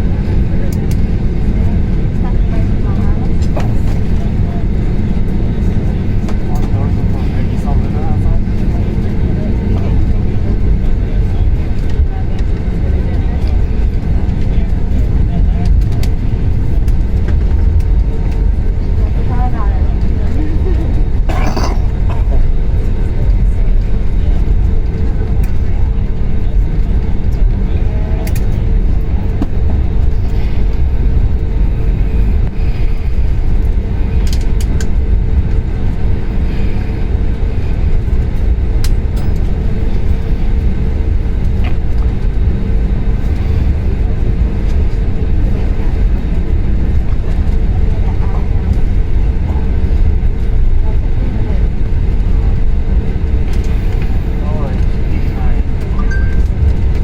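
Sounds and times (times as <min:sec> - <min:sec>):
airliner cabin rumble: 0:00.0 - 0:57.0
constant hum: 0:00.0 - 0:57.0.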